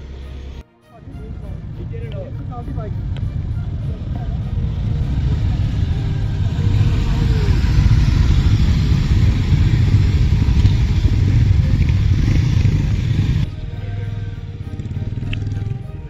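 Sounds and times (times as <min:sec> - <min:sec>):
motorcycles rumbling past: 0:01.6 - 0:13.5, 0:14.4 - 0:16.0.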